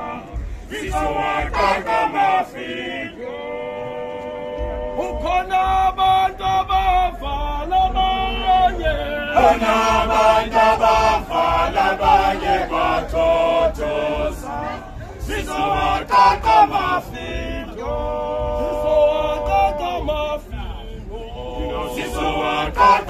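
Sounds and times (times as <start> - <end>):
male a cappella choir singing: 0.0 - 23.0.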